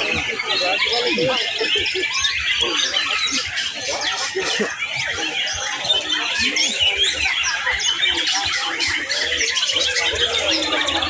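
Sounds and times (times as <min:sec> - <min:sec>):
birds singing: 0:00.0 - 0:11.0.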